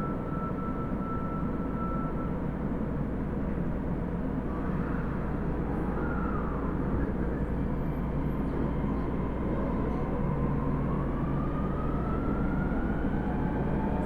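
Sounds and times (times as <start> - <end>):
subway train rumble: 0.0 - 14.0.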